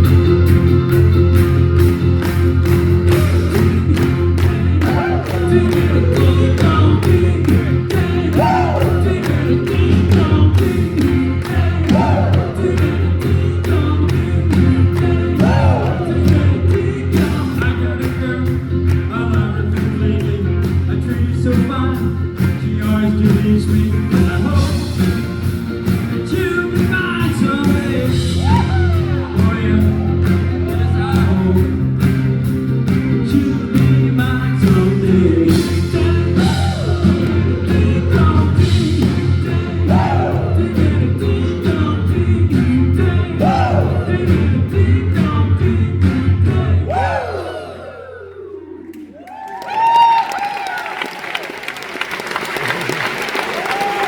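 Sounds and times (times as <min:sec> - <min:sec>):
live rock band playing: 0:00.0 - 0:46.8
steady drum beat: 0:00.0 - 0:47.2
person singing: 0:03.0 - 0:25.3, 0:26.2 - 0:32.0, 0:33.2 - 0:49.0.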